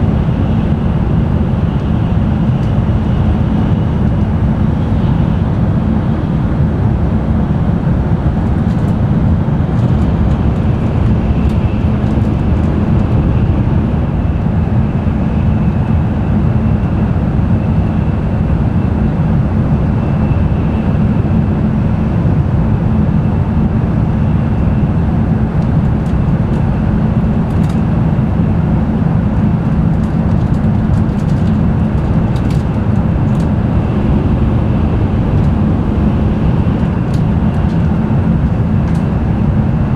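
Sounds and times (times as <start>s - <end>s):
train wheels and air rumbling: 0.0s - 39.9s.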